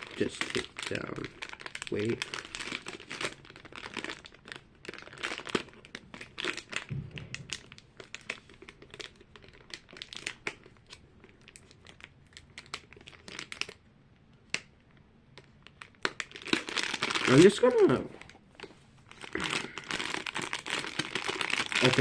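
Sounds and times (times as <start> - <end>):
plastic packaging crinkling: 0.0 - 13.8, 14.4 - 22.0.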